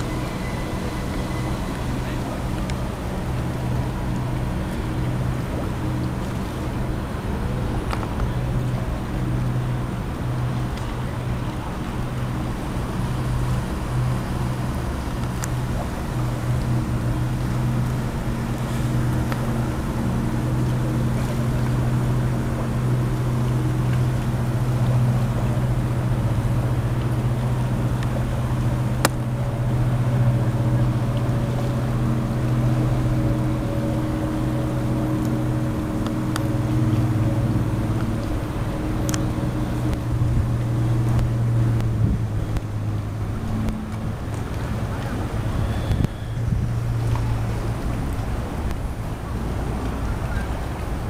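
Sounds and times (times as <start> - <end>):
boat engine droning: 0.0 - 51.0.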